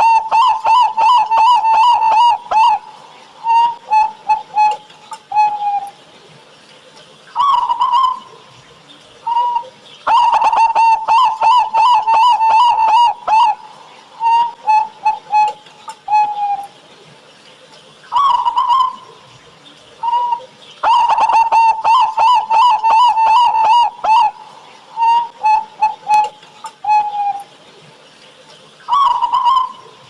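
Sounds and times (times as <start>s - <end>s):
dove cooing: 0.0s - 6.1s, 7.4s - 16.8s, 18.1s - 27.6s, 28.6s - 30.0s.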